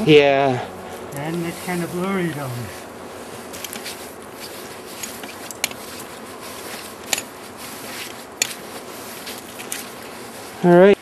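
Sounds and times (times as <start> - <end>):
clothing rustling: 0.7 - 11.0
scuffing on rock: 1.0 - 10.6.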